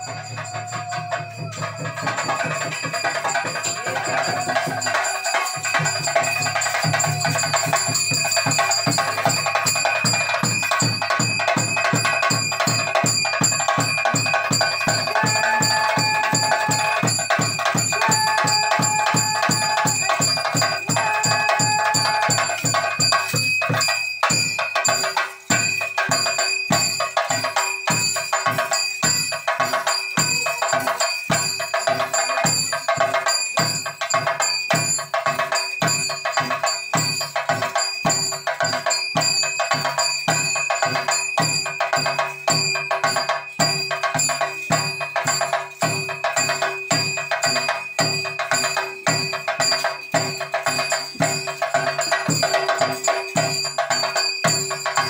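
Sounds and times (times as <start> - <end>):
fast even drumming: 0.0 - 55.0.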